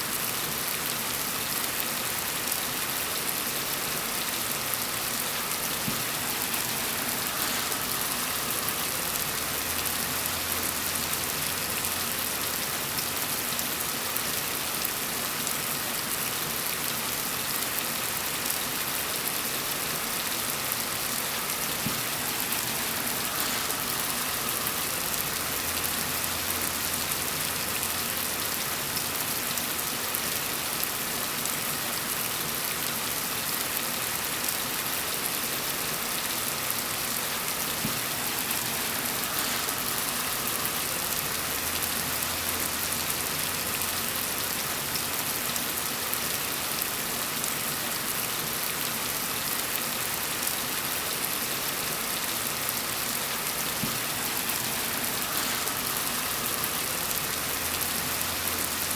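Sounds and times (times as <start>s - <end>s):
rain pattering on surfaces: 0.0s - 58.9s.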